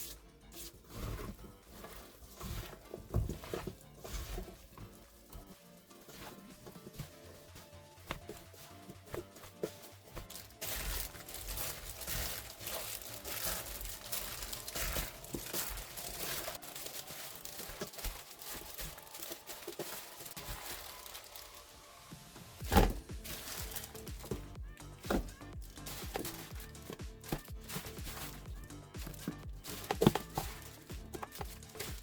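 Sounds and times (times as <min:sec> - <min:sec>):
food packaging crinkling: 0:00.8 - 0:32.0.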